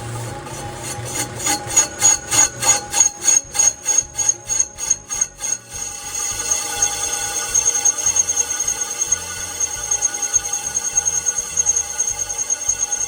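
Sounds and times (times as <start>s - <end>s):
cutting tool scraping metal: 0.0s - 13.0s
steady high machine whine: 0.0s - 13.0s.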